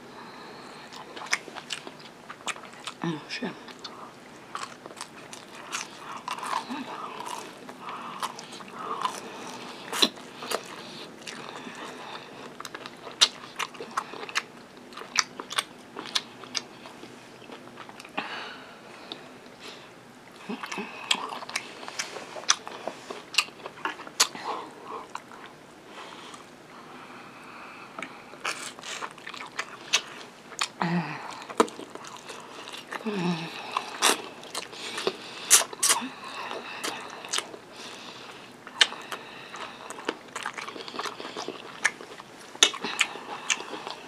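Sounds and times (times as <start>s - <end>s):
soft chewing: 0.1s - 44.0s.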